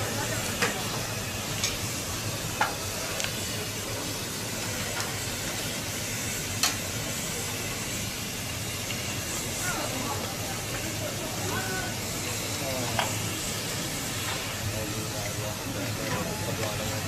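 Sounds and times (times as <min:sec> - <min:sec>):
fire flames hissing: 0:00.0 - 0:17.0.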